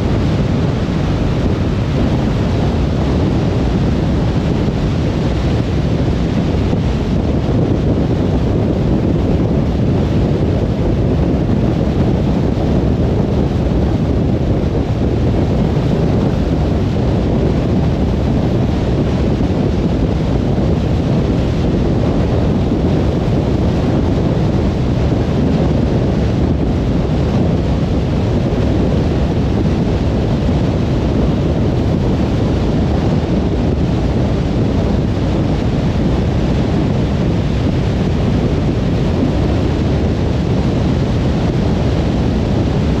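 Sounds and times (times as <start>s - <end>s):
wind noise: 0.0s - 43.0s.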